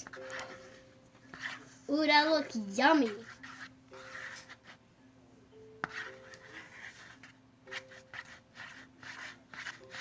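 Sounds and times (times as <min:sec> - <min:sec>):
spoon scraping slime in bowl: 0:00.0 - 0:01.7, 0:02.4 - 0:04.8, 0:05.8 - 0:10.0.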